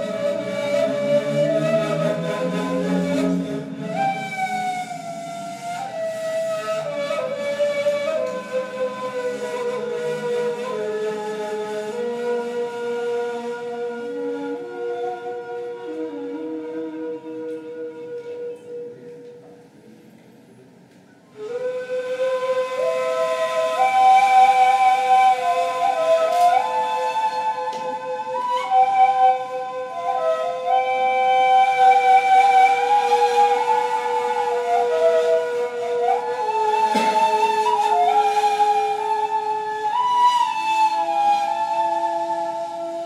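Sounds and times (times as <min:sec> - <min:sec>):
flute melody: 0:00.0 - 0:19.6, 0:21.1 - 0:43.0
low sustained flute note: 0:00.0 - 0:20.0, 0:21.1 - 0:43.0.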